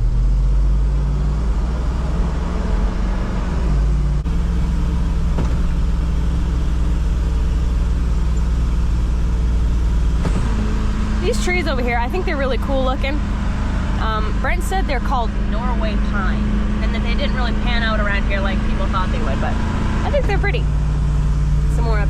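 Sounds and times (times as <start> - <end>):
truck engine driving: 0.0 - 22.0.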